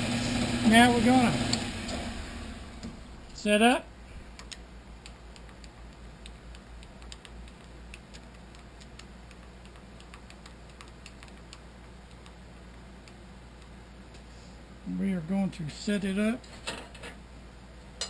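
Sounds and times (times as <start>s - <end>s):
steady low hum: 0.8s - 18.0s.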